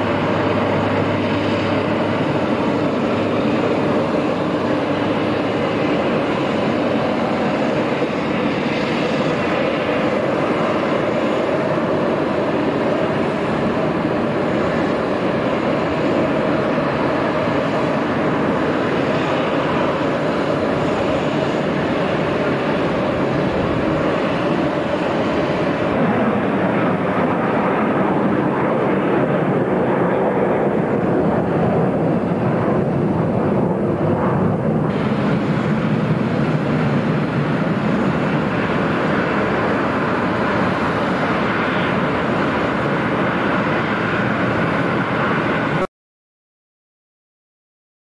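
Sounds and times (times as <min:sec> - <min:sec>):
jet engines rushing: 0:00.0 - 0:45.9.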